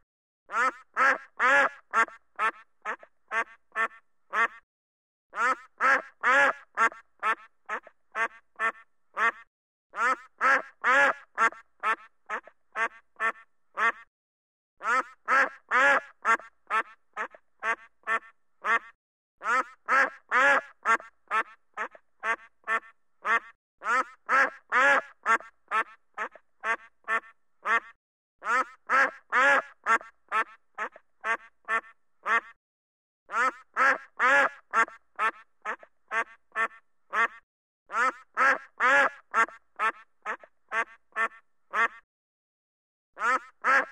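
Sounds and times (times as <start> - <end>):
duck quacking harshly: 0.5 - 4.6, 5.3 - 14.1, 14.8 - 32.6, 33.3 - 42.0, 43.2 - 43.9.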